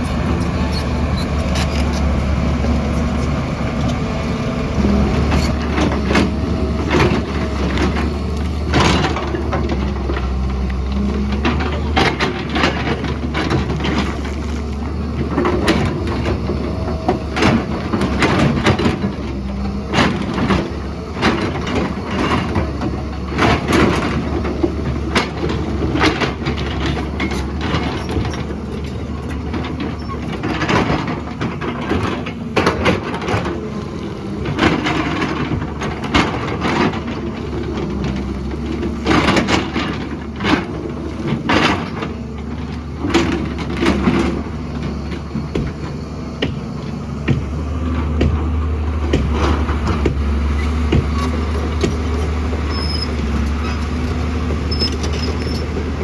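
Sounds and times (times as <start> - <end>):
bucket clanking and scraping rock: 0.0 - 44.9
excavator diesel engine running: 0.0 - 56.0.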